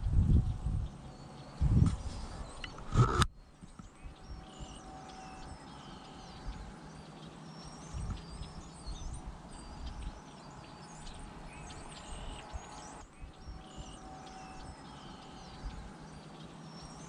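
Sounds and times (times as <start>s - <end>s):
wind rumble on microphone: 0.0s - 6.8s, 7.6s - 16.1s
small birds chirping: 0.0s - 17.0s.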